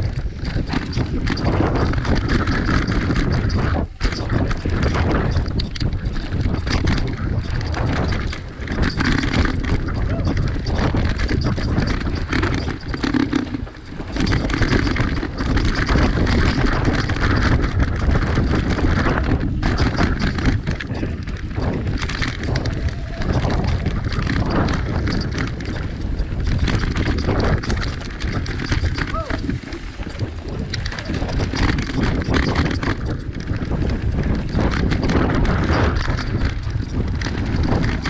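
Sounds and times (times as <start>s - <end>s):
bike rattling over bumps: 0.0s - 38.0s
bike tyres rolling over rough ground: 0.0s - 38.0s
steady rushing noise: 0.0s - 38.0s.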